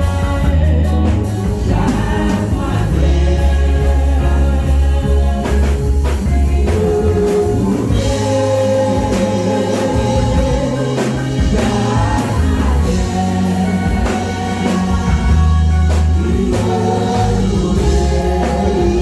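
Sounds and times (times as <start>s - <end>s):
bass line: 0.0s - 19.0s
gospel band and singers: 0.0s - 19.0s.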